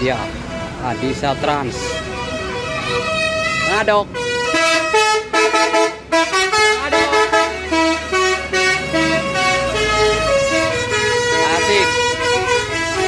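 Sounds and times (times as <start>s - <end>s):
low engine rumble: 0.0s - 13.0s
multi-tone bus horn melody: 0.0s - 13.0s.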